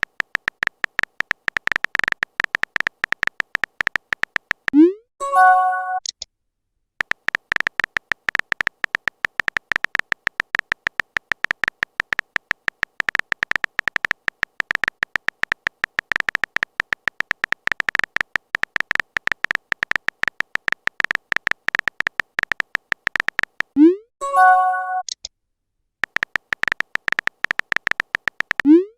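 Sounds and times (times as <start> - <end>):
electronic typing clicks: 0.0 - 6.2, 7.0 - 25.2, 26.0 - 28.9.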